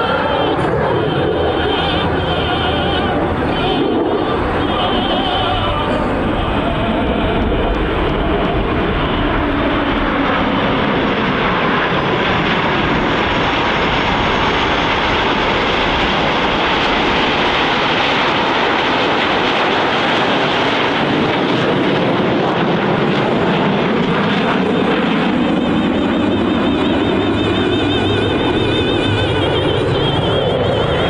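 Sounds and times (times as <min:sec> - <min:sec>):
jet aircraft flying past: 0:00.0 - 0:31.0.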